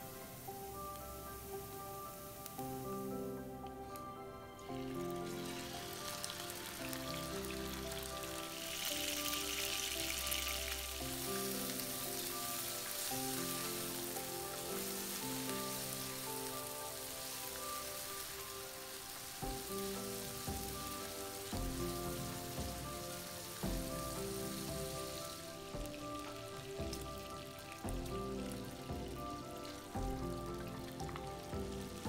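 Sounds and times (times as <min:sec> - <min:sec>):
meat sizzling in hot oil: 0:00.0 - 0:32.0
soft background music: 0:00.0 - 0:32.0.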